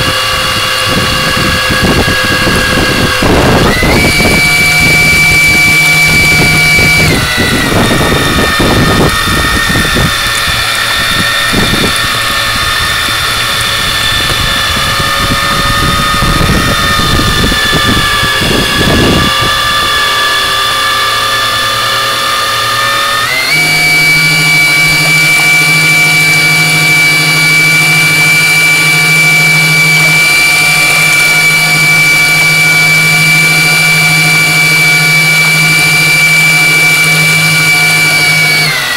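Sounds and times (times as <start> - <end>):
electric motor whining: 0.0 - 38.9
low rumbling noise: 0.0 - 38.9.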